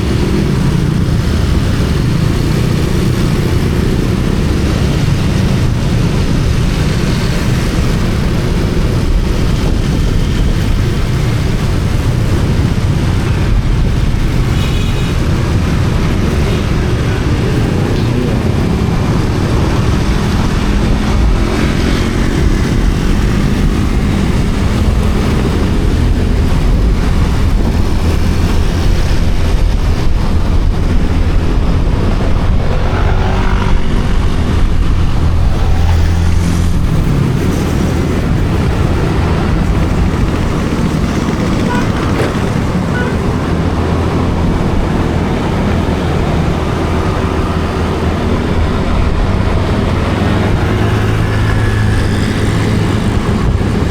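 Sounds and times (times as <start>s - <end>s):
motorcycle engine running: 0.0s - 53.9s
wind rush on microphone: 0.0s - 53.9s.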